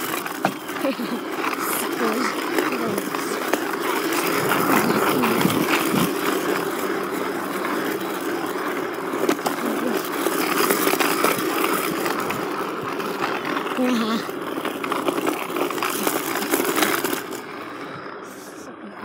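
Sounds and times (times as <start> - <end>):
board wheels rolling on asphalt: 0.0 - 19.0.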